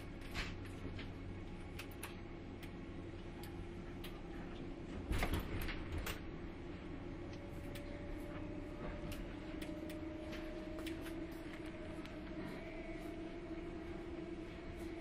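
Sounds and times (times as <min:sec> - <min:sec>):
electric train motor hum: 0:00.0 - 0:15.0.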